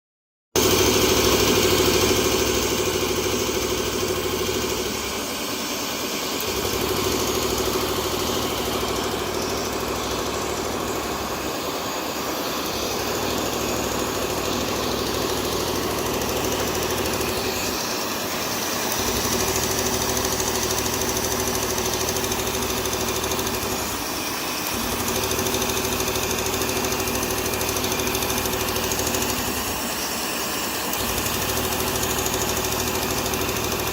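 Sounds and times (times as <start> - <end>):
machine humming: 0.6 - 33.9.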